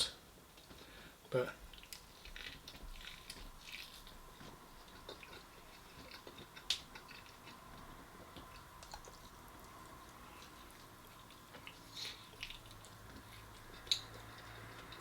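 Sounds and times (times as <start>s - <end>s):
person chewing meat: 0.5s - 15.0s.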